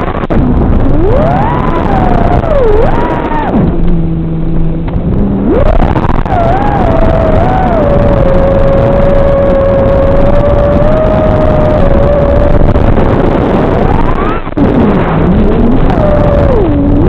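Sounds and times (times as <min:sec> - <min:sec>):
drone motors whining: 0:00.0 - 0:17.0
wind noise: 0:00.0 - 0:17.0.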